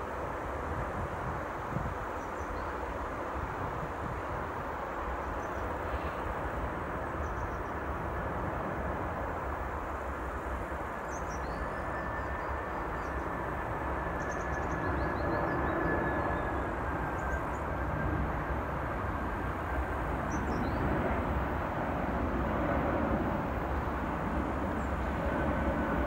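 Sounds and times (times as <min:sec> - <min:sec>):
jet engines rumbling with high whine: 0:00.0 - 0:26.0.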